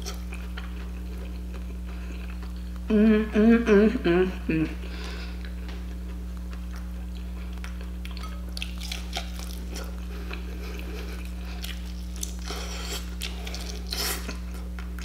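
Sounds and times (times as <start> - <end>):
person chewing: 0.0 - 2.9, 5.0 - 15.0
steady low hum: 0.0 - 15.0.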